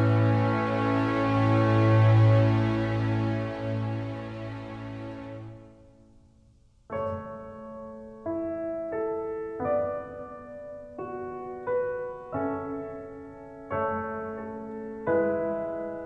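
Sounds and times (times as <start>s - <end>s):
piano playing slow chords: 0.0s - 6.0s, 6.9s - 16.0s.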